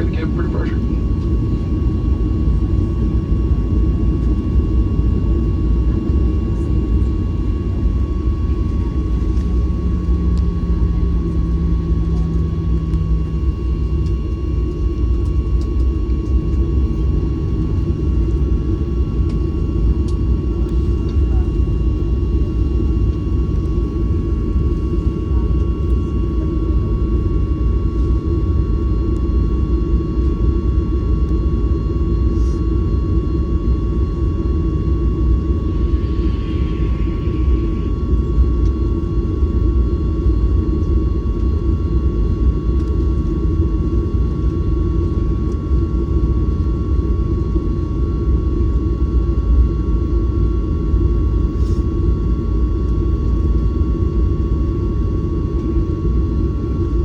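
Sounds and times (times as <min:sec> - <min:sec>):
high engine whine: 0:00.0 - 0:50.0
jet engines rumbling in cabin: 0:00.0 - 0:57.0.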